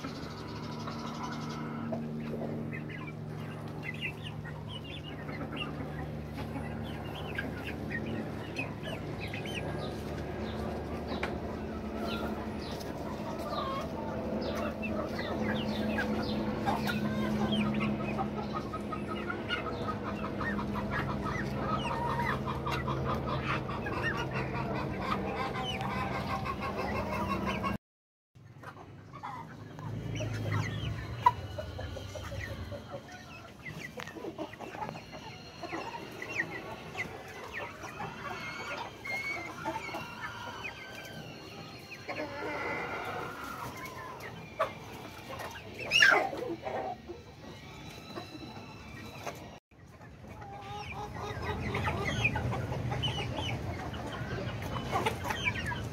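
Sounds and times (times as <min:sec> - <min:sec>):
chickens clucking: 0:00.0 - 0:27.8, 0:28.4 - 0:55.9.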